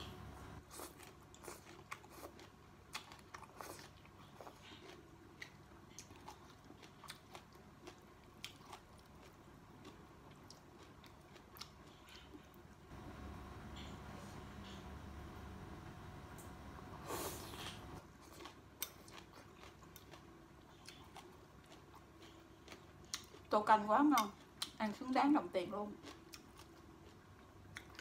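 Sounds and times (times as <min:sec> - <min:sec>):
chewing vegetables: 0:00.6 - 0:12.9, 0:17.1 - 0:28.0.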